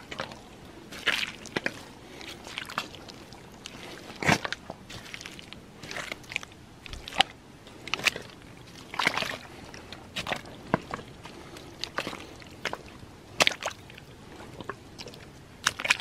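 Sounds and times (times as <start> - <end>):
boots squelching in mud: 0.0 - 16.0.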